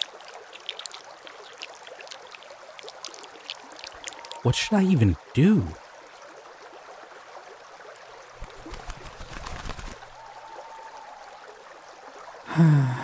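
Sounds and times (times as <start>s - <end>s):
creek water trickling: 0.0s - 13.0s.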